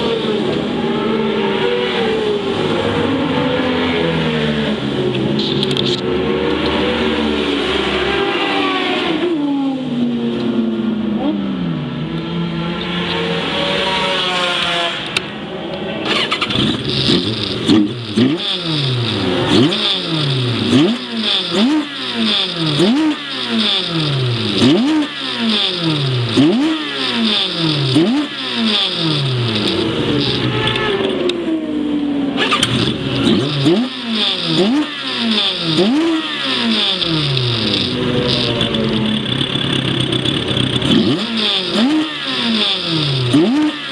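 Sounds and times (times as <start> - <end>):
racing engine revving: 0.0 - 9.5, 10.8 - 31.7, 32.3 - 43.9.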